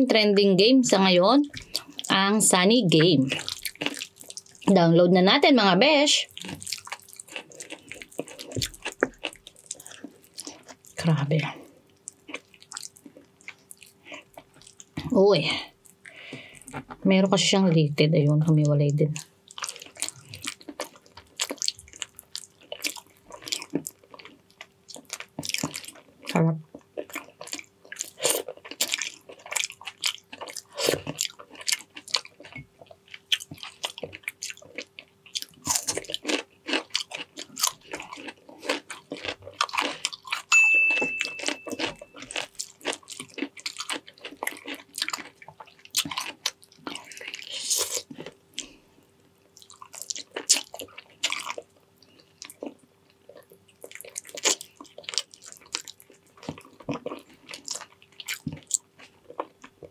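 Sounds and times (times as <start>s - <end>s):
faint steady hum: 0.0s - 59.9s
chewing and lip-smacking: 1.5s - 2.2s, 2.9s - 4.7s, 6.2s - 15.0s, 19.2s - 40.5s, 41.2s - 48.8s, 49.4s - 59.9s.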